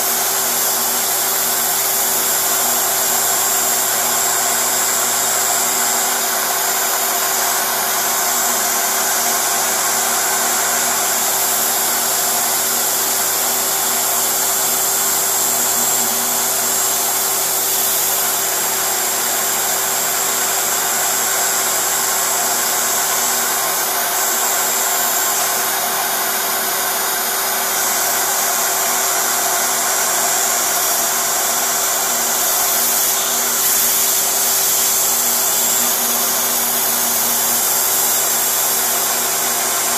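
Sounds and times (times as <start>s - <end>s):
dust extraction vacuum rushing: 0.0s - 39.9s
router spindle high-pitched whine: 0.0s - 39.9s.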